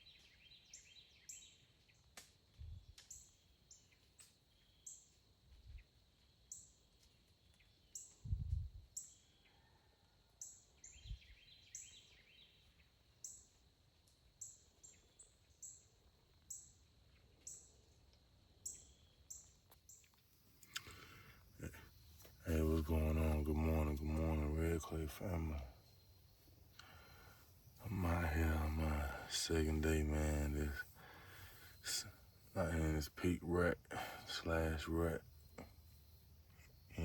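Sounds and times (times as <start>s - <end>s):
small birds chirping: 0.0s - 13.7s, 14.3s - 37.0s.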